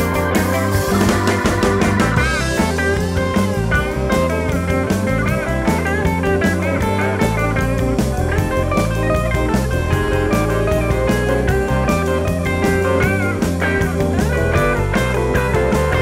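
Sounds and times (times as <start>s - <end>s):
upbeat rock music: 0.0s - 16.0s.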